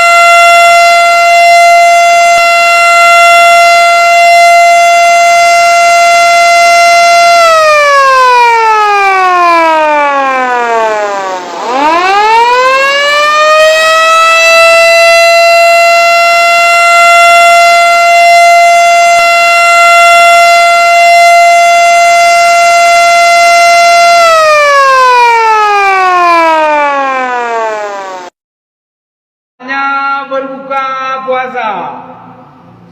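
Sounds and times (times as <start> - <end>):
siren sliding in pitch: 0.0 - 28.3.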